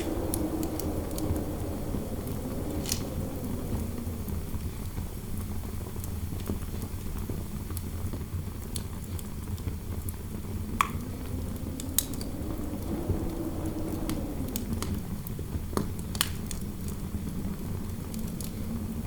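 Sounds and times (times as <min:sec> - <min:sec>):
wind howling: 0:00.0 - 0:07.6, 0:08.5 - 0:19.0
fireplace crackling and popping: 0:00.0 - 0:19.0.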